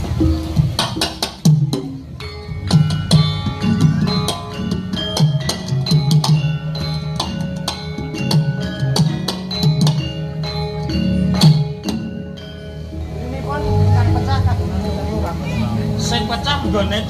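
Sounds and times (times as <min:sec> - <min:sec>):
hand drum beats: 0:00.0 - 0:17.0
metallophones ringing: 0:00.2 - 0:17.0.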